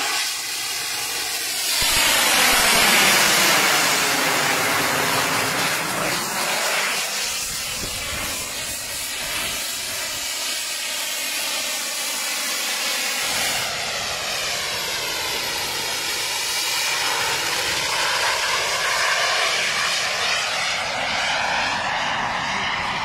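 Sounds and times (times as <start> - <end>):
jet turbines rushing hiss: 0.0 - 23.0.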